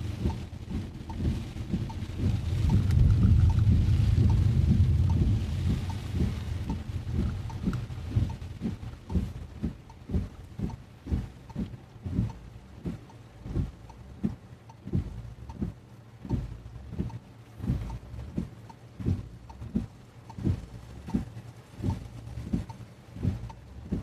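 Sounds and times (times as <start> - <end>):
heavy rain rumble: 0.0 - 24.0
windshield wipers thumping: 0.0 - 24.0.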